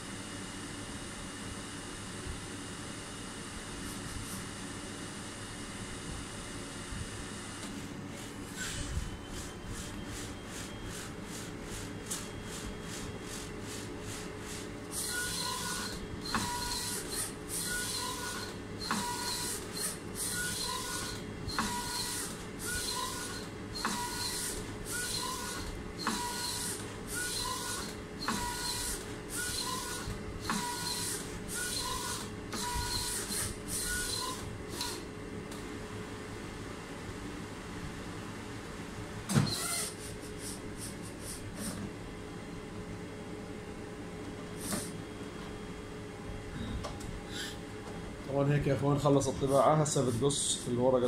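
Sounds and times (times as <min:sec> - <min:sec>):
inkjet plotter carriage whirring: 0:01.8 - 0:35.8, 0:39.2 - 0:51.0.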